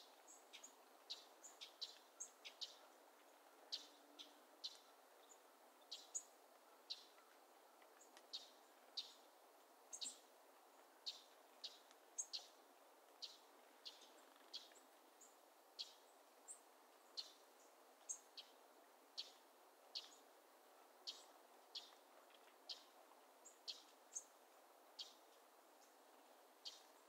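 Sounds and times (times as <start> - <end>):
faint steady hiss: 0.0 - 27.0
songbirds chip calls: 0.0 - 27.0.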